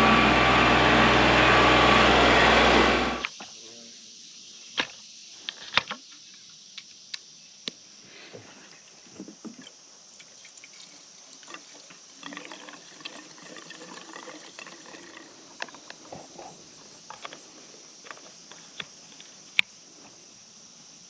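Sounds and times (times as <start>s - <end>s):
insect chorus: 3.2s - 21.0s.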